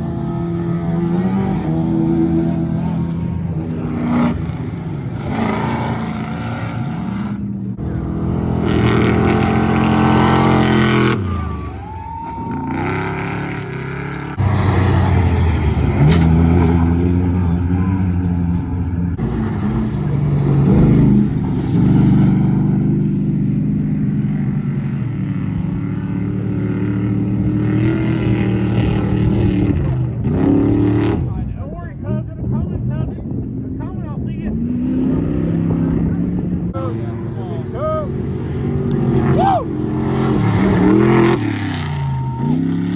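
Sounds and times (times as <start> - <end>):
race engines revving and passing: 0.0 - 42.9.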